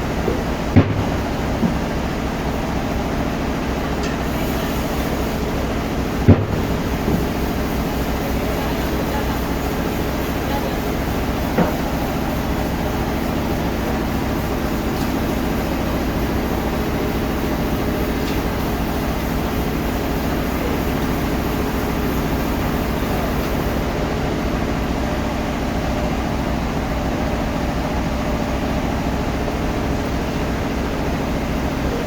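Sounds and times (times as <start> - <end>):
sawmill machinery drone: 0.0 - 32.0.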